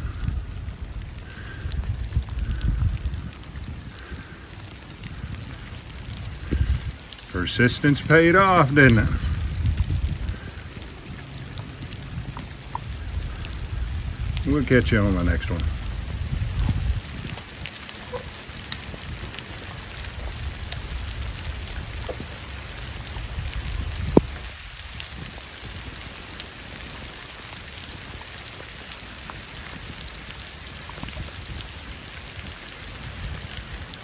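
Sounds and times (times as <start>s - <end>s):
raindrops ticking close by: 0.0s - 34.0s
steady rain falling: 0.0s - 34.0s.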